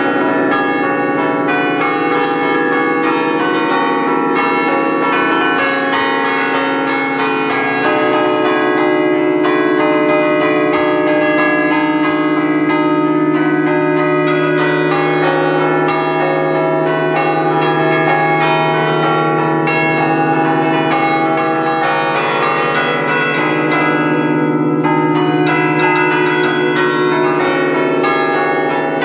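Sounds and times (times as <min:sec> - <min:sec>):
church bells ringing a tune: 0:00.0 - 0:29.0.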